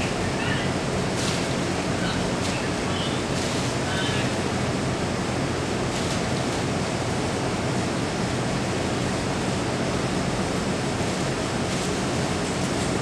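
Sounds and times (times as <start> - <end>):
steady hiss-like noise: 0.0 - 13.0.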